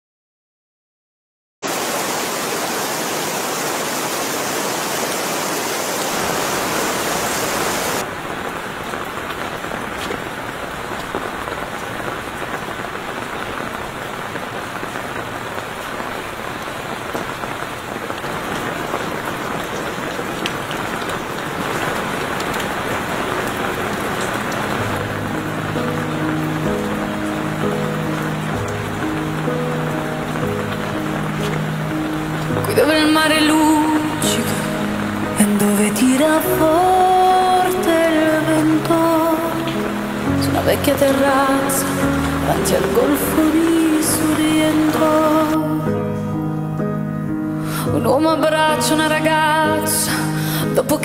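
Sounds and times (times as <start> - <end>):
steady rain hiss: 1.6 - 51.0.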